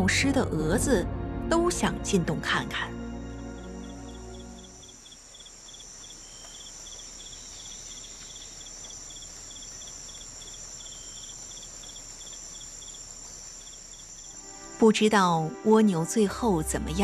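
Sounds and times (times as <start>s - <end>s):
insects chirping in pulses: 1.8s - 17.0s
high-pitched insect trill: 3.2s - 17.0s.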